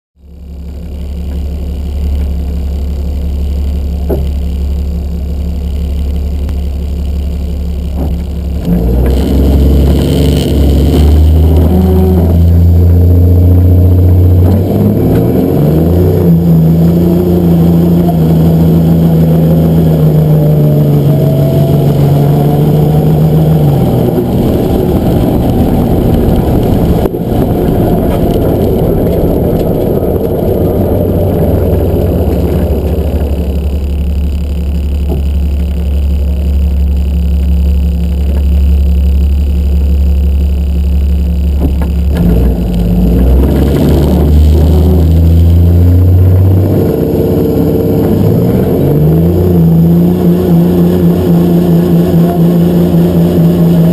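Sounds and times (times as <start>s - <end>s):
diesel engine revving: 0.2s - 53.9s.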